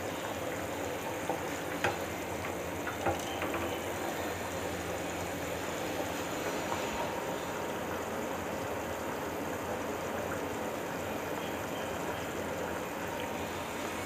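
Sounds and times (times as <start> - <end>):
pot boiling and bubbling: 0.0 - 14.0.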